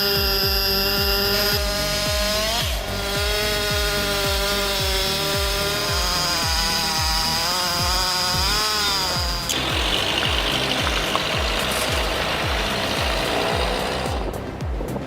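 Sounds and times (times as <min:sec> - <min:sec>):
saw rig engine cutting log: 0:00.0 - 0:14.6
thumping music beat: 0:00.0 - 0:15.0.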